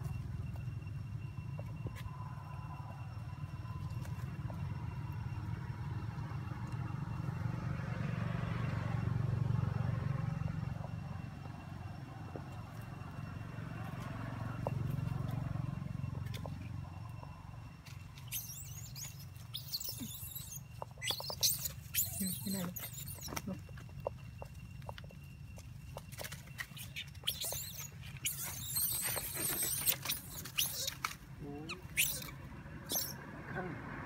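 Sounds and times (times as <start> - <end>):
vehicle engine rumble passing: 0.0 - 34.0.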